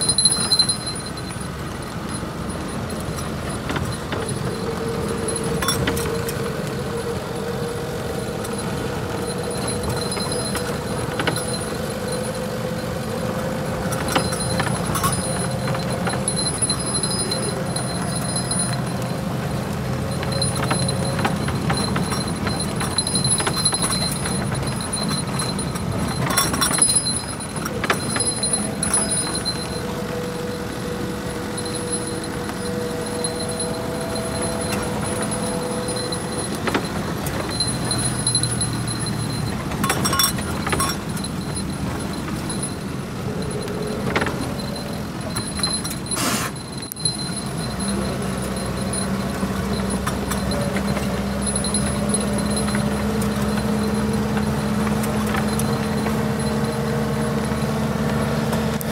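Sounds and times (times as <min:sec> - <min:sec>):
bicycles and load rattling: 0:00.0 - 0:58.9
road noise: 0:00.0 - 0:58.9
truck engine drone: 0:00.0 - 0:58.9.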